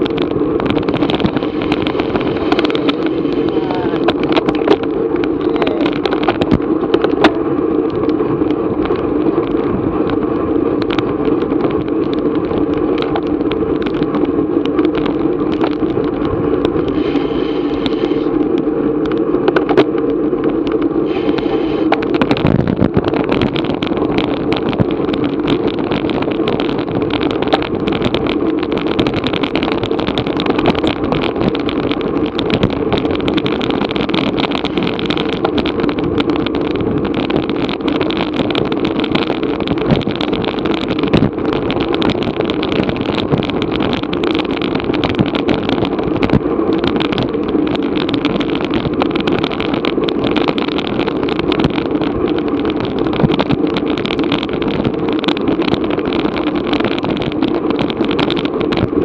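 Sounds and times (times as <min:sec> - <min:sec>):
wind and road noise: 0:00.0 - 0:59.0
small ticks and rattles: 0:04.0 - 0:59.0.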